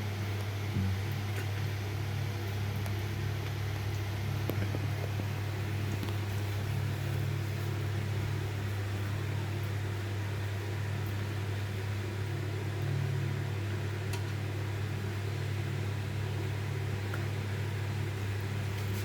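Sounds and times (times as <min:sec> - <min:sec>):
fan motor humming: 0:00.0 - 0:19.0.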